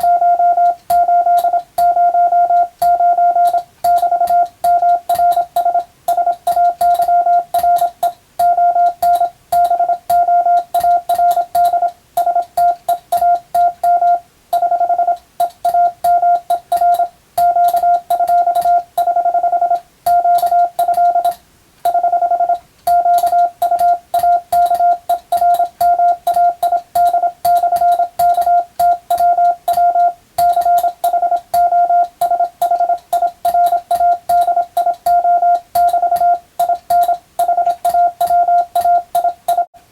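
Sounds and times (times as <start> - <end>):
morse code beep tone: 0.0 - 39.7
telegraph key clicks: 2.6 - 19.1, 19.7 - 39.7.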